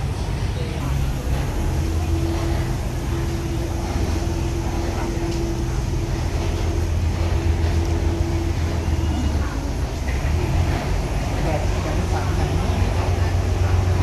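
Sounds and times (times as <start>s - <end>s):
ferry engine droning: 0.0s - 14.0s.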